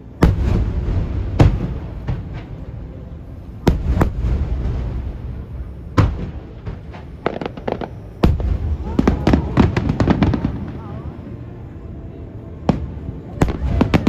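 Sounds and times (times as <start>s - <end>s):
fireworks booming: 0.0s - 11.2s, 12.6s - 14.0s
low rolling rumble: 0.0s - 14.0s.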